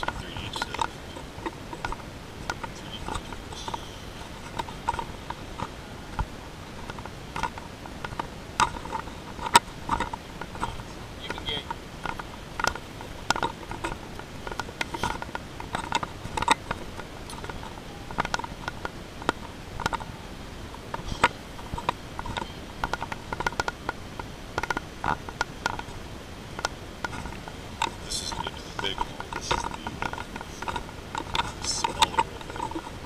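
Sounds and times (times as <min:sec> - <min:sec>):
handheld camera clicking and rattling: 0:00.0 - 0:20.1, 0:20.7 - 0:26.0, 0:26.6 - 0:33.0
steady background noise: 0:00.0 - 0:33.0.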